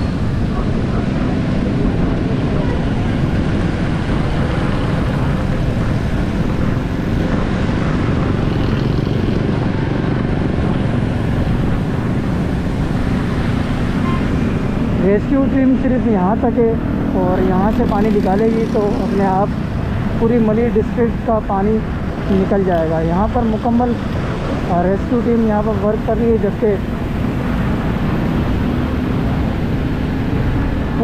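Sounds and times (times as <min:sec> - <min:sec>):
motorcycle engines running: 0:00.0 - 0:31.0.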